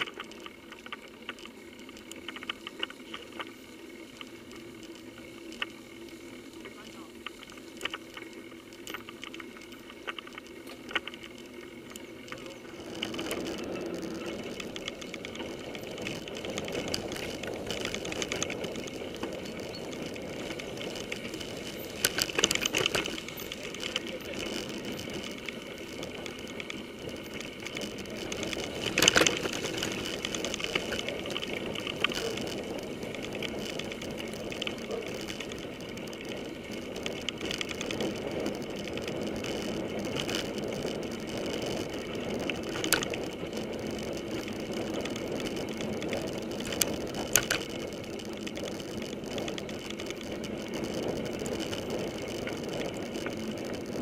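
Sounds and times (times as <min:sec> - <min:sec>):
bike rattles and knocks: 0:00.0 - 0:54.0
bike tyres rolling on dirt: 0:00.0 - 0:54.0.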